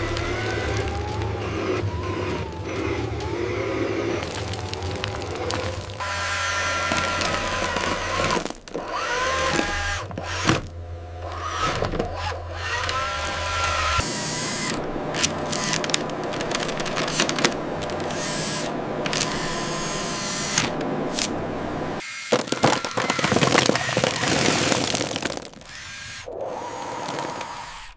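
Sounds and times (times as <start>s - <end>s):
small motor whining: 0.0s - 27.9s.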